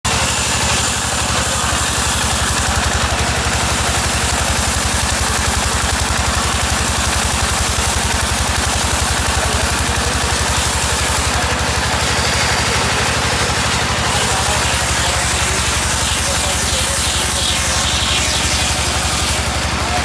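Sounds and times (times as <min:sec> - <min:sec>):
sawmill engine running: 0:00.0 - 0:20.0.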